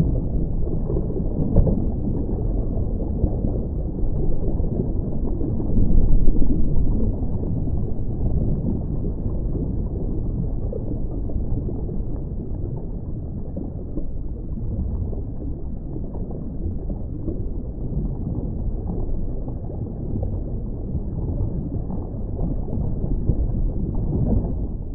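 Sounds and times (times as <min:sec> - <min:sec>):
underwater rumble and hiss: 0:00.0 - 0:24.9.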